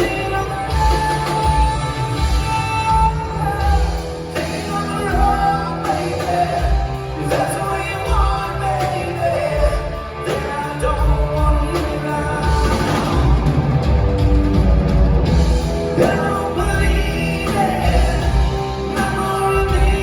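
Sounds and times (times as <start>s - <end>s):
person singing: 0.0s - 13.7s, 15.8s - 20.0s
rock band playing live: 0.0s - 20.0s.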